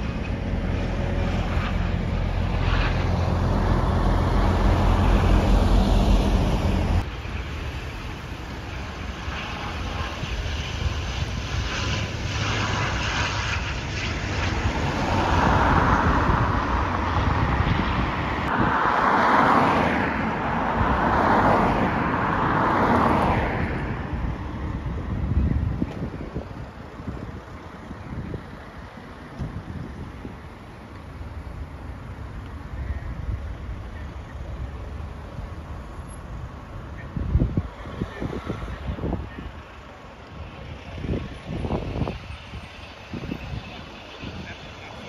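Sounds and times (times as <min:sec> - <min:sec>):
aircraft engine drone: 0:00.0 - 0:45.0
rushing noise: 0:00.0 - 0:45.0.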